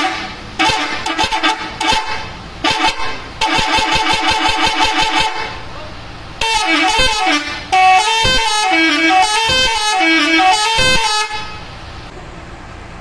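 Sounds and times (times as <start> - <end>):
bus musical horn tune: 0.0 - 5.6, 6.4 - 11.7.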